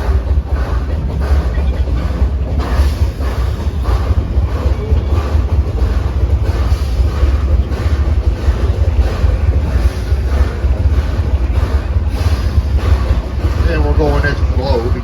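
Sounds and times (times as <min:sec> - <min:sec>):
steam locomotive exhaust chuffs: 0:00.0 - 0:15.0
train cars rolling: 0:00.0 - 0:15.0.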